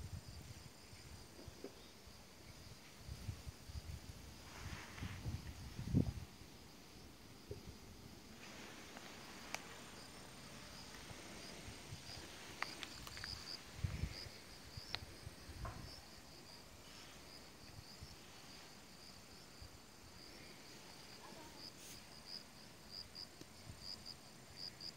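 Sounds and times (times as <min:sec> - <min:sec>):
insects chirping: 0:00.1 - 0:24.9.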